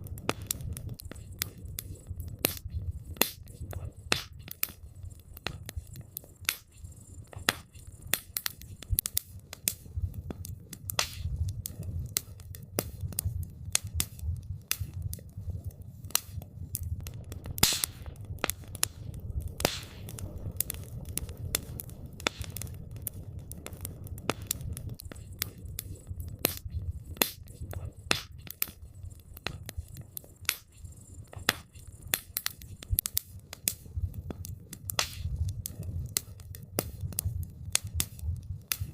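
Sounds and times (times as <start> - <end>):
campfire crackling: 0.0 - 38.9
hissing pops: 0.1 - 38.9.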